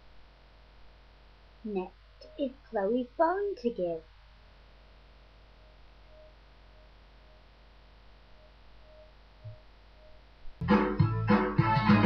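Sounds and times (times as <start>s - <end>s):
low electrical hum: 0.0s - 10.7s.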